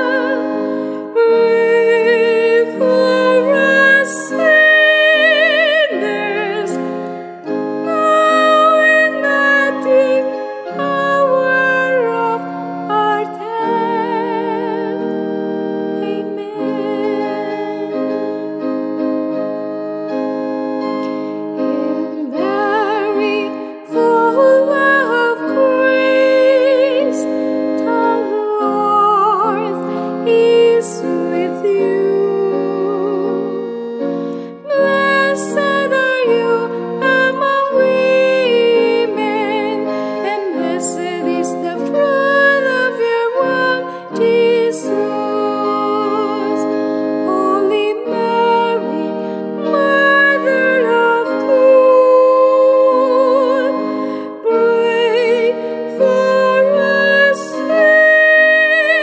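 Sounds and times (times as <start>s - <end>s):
high melody with wide vibrato: 0.0s - 59.0s
organ-like keyboard chords: 0.0s - 59.0s.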